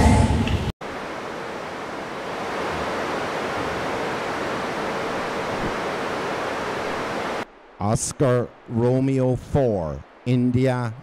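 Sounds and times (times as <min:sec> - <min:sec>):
radio static hiss: 0:00.8 - 0:11.0.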